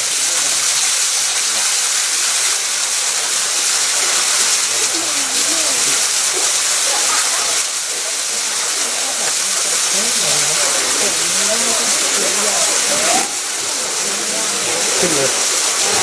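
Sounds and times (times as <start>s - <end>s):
running water rushing: 0.0s - 16.0s
faint voices: 2.9s - 16.0s.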